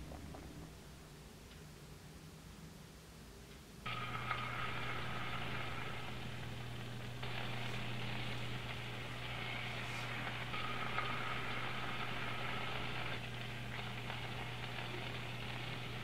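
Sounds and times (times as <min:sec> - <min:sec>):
stovetop hiss and hum: 0:00.0 - 0:16.0.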